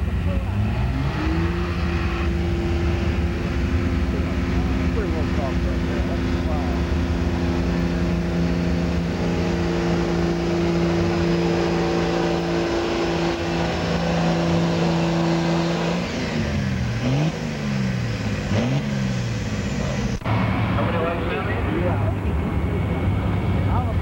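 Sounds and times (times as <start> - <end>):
diesel engine at high revs: 0.0 - 24.0.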